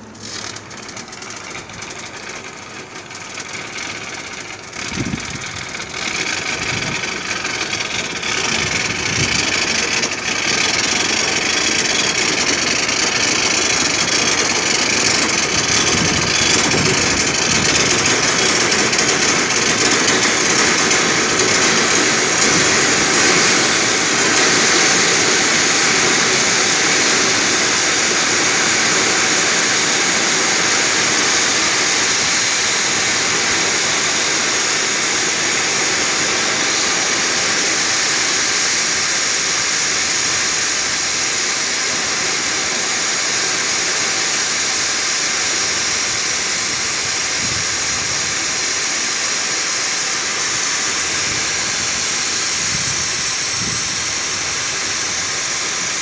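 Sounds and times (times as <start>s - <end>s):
gas and spray hissing from pipe: 0.0s - 56.0s.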